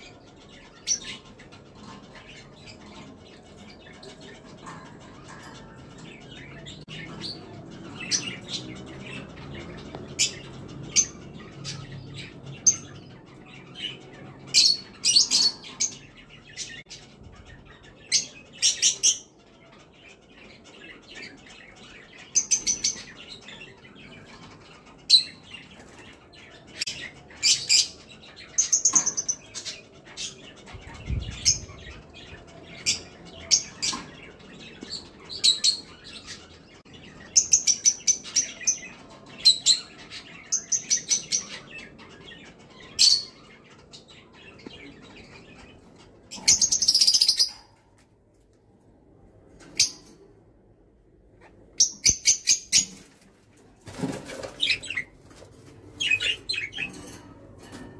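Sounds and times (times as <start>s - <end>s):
parakeets chattering: 0.0s - 47.8s, 53.9s - 57.9s.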